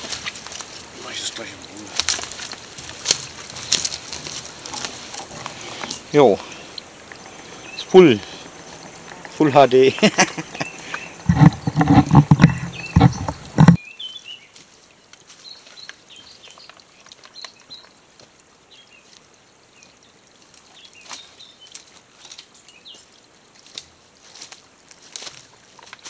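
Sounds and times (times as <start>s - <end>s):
small birds chirping: 0.0s - 24.4s.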